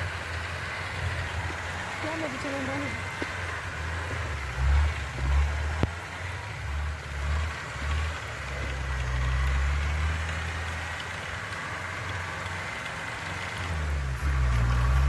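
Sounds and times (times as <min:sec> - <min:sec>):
engine rumbling at low revs: 0:00.0 - 0:15.0.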